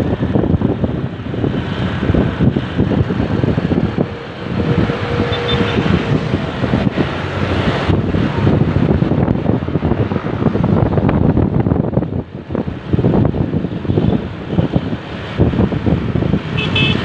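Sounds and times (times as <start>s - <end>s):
road and engine noise: 0.0s - 17.0s
wind buffeting microphone: 0.0s - 17.0s.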